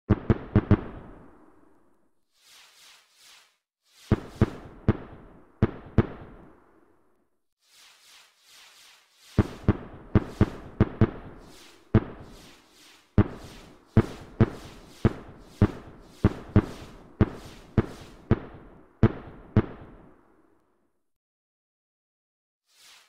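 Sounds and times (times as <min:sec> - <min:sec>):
fireworks bursting with sharp bangs: 0:00.1 - 0:07.0, 0:07.6 - 0:20.5.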